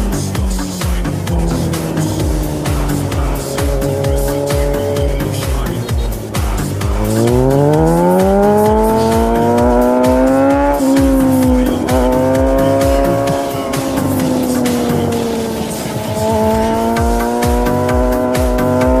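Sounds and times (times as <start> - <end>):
motorcycle engine accelerating: 0.0 - 19.0
music with steady beat: 0.0 - 19.0.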